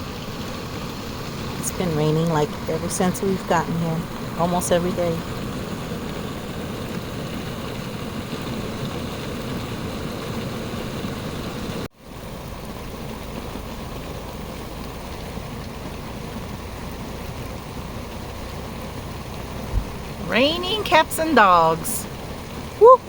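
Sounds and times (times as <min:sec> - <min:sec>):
heavy rain on a vehicle: 0:00.0 - 0:23.0.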